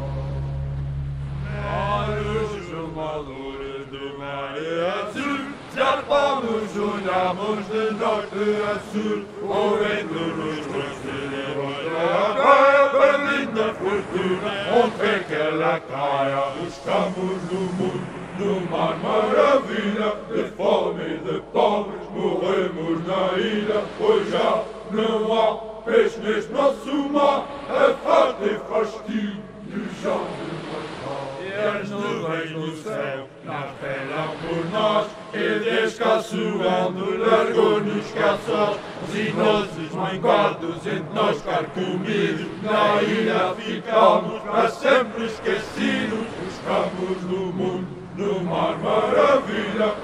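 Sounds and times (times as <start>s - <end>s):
chant-like singing: 0.0s - 50.0s.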